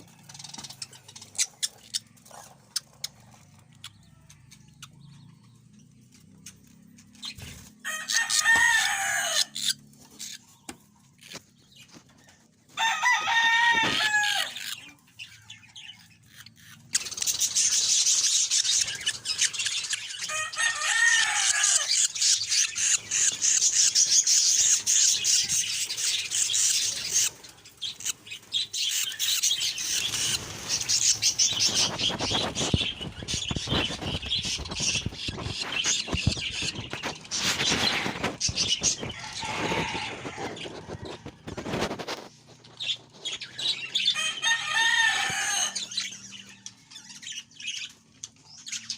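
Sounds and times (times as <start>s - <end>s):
budgies chattering: 0.0s - 12.5s, 13.8s - 48.9s
budgies calling: 0.0s - 48.9s.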